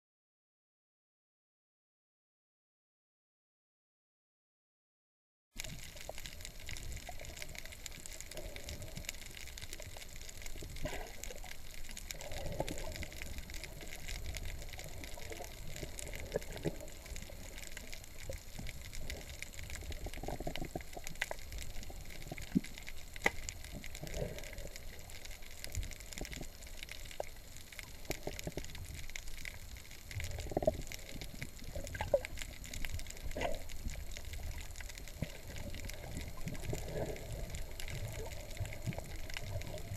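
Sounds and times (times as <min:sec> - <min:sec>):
faint clicks: 0:05.6 - 0:39.9
underwater rumble of moving water: 0:05.6 - 0:39.9
underwater swishes: 0:05.6 - 0:39.9.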